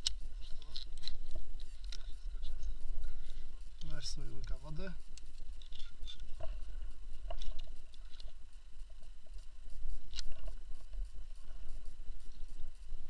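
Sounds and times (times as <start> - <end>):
metallic clicks of climbing gear: 0.0 - 13.0
steady low rumble: 0.0 - 13.0.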